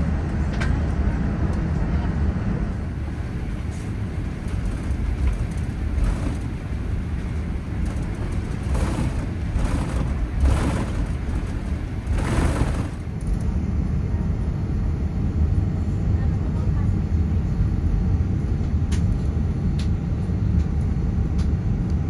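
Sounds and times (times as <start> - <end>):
airplane cabin rumble: 0.0 - 22.0.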